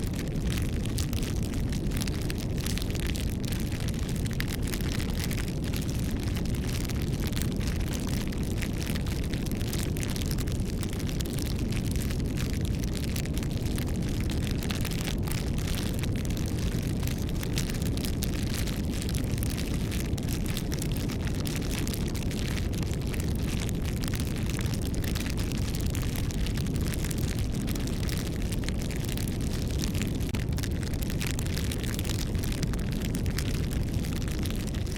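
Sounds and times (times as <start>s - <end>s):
fire pops and snaps: 0.0s - 34.9s
low fire rumble: 0.0s - 34.9s
wood bonfire crackling: 0.0s - 34.9s.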